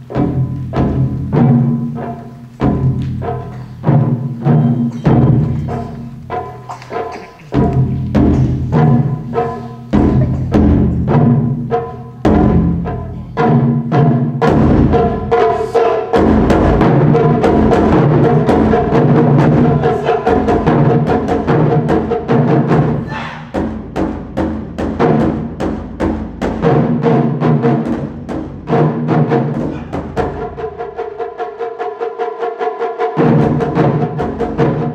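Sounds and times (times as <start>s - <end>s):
taiko drums: 0.0s - 34.9s.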